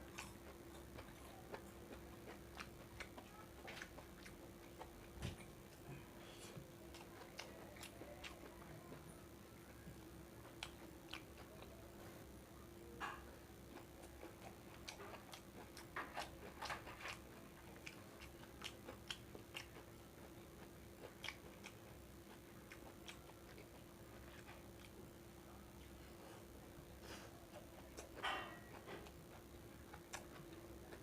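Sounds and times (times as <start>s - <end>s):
person chewing with mouth clicks: 0.0s - 9.1s, 9.8s - 12.2s, 13.2s - 25.1s, 27.1s - 31.0s
faint steady hum: 0.0s - 31.0s.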